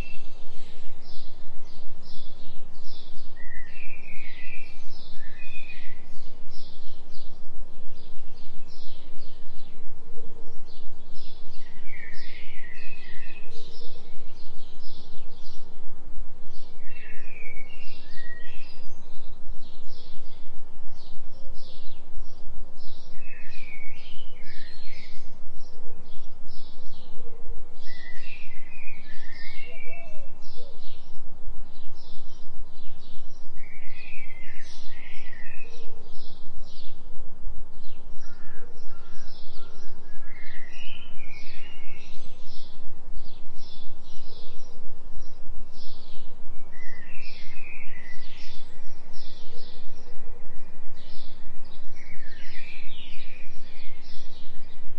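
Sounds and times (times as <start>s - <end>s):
forest birds singing: 0.0s - 54.9s
low binaural beat tone: 0.0s - 54.9s.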